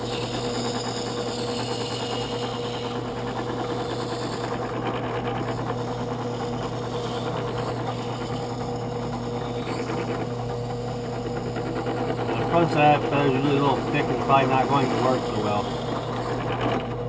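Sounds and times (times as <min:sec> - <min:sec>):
sanding drum grinding feather: 0:00.0 - 0:16.9
drill press motor hum: 0:00.0 - 0:17.0.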